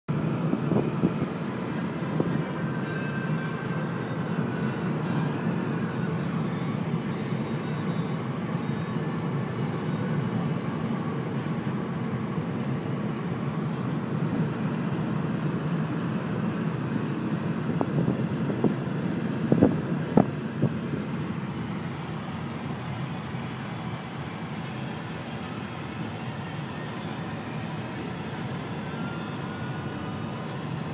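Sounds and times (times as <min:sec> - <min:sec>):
road and engine rumble: 0:00.0 - 0:30.9.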